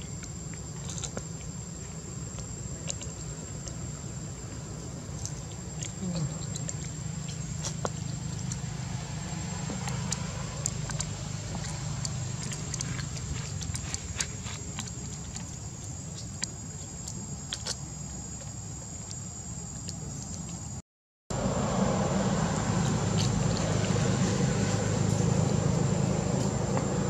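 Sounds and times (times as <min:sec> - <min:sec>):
monkeys chewing crunchy food: 0:00.0 - 0:20.6, 0:22.2 - 0:27.0
steady low hum: 0:00.0 - 0:27.0.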